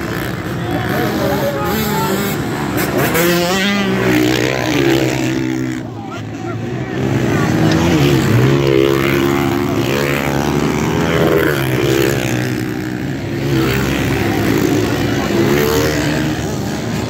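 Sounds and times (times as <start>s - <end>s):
pit bike engines revving: 0.0s - 17.0s.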